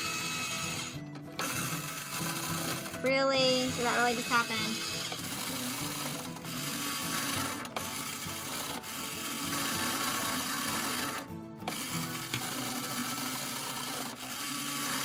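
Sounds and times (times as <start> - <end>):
small motors whirring: 0.0 - 15.0.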